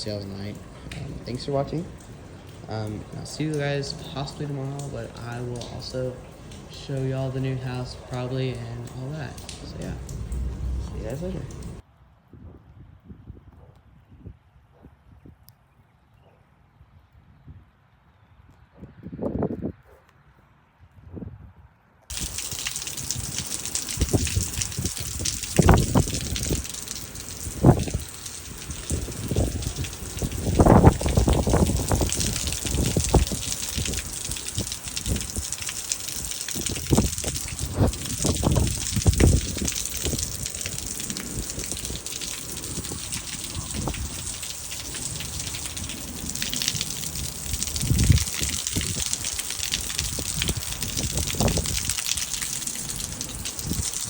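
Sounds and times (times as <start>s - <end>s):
heavy rain falling: 0.0s - 11.8s, 22.1s - 54.0s.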